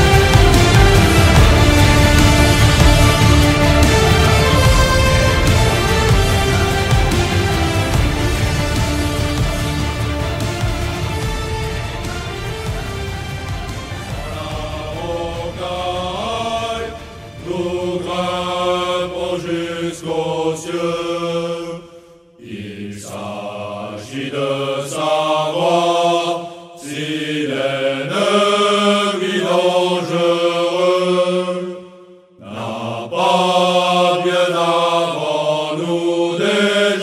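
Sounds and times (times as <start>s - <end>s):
low voices chanting: 0.0s - 37.0s.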